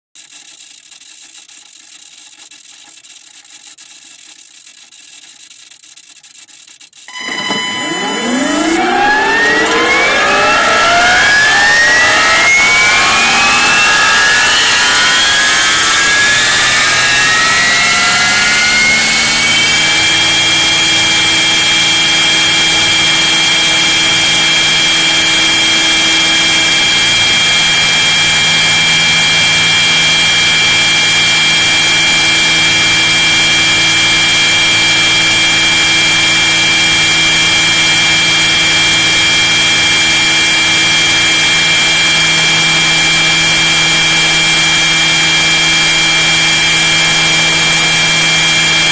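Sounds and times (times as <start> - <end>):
model helicopter motor whine: 0.2 - 48.9.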